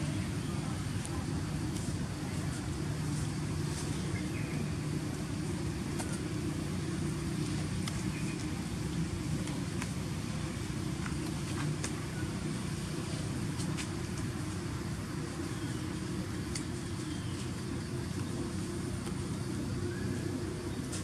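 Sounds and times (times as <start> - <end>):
faint hum: 0.0 - 21.0
low outdoor rumble: 0.0 - 21.0.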